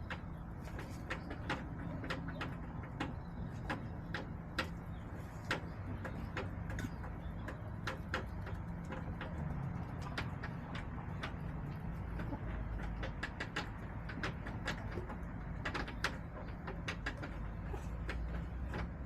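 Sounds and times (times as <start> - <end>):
chickens pecking hard surface: 0.0 - 19.0.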